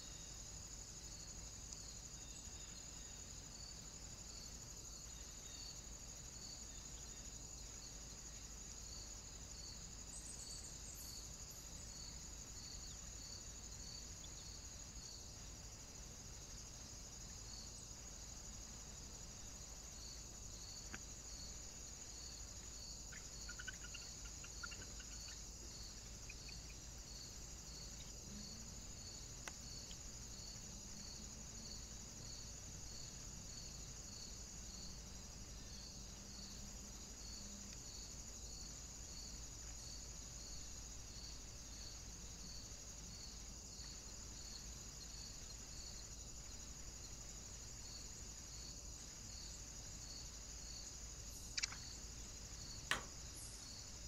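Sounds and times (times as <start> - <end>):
crickets chirring: 0.0 - 54.0
regular insect chirp: 0.0 - 54.0.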